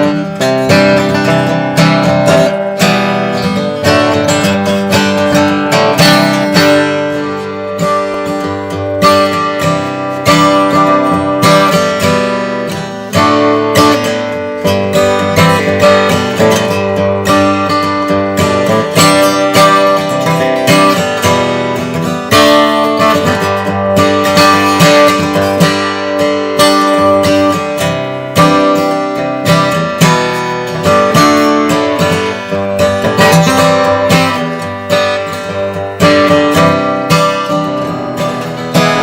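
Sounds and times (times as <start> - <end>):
acoustic guitar strummed in chords: 0.0 - 39.0.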